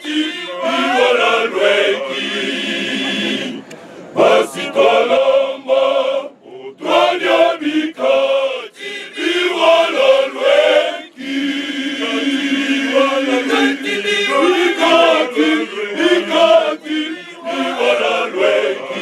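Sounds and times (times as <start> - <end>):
male choir singing: 0.0 - 19.0.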